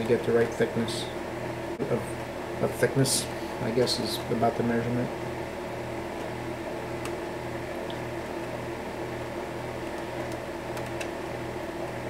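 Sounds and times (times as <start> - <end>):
workshop equipment humming: 0.0 - 12.0.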